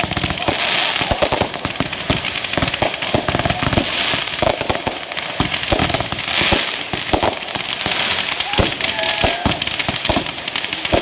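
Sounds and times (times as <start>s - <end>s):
fireworks crackle and hiss: 0.0s - 11.0s
fireworks popping and banging: 0.0s - 11.0s.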